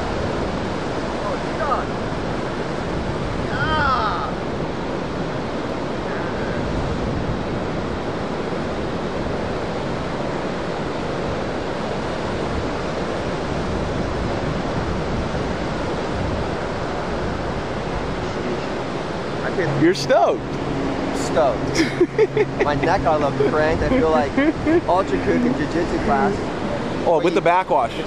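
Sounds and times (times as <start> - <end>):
heavy ocean surf: 0.0 - 28.0.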